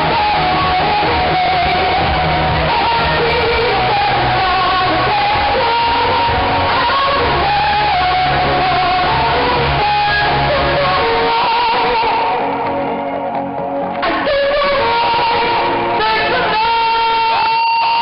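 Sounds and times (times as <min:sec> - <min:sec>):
live pop-rock band over speakers: 0:00.0 - 0:18.0.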